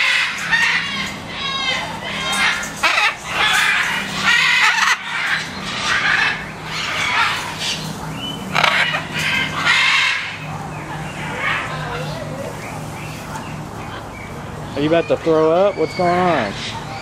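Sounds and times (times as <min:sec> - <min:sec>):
low steady hum: 0:00.0 - 0:17.0
parrots squawking: 0:00.0 - 0:17.0.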